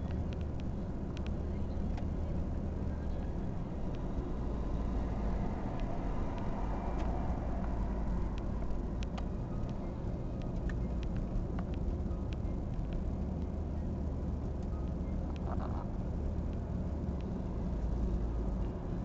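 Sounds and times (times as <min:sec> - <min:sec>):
light clicks and taps: 0:00.0 - 0:02.3, 0:03.2 - 0:04.2, 0:05.7 - 0:18.8
engine running at low speed: 0:00.0 - 0:19.0.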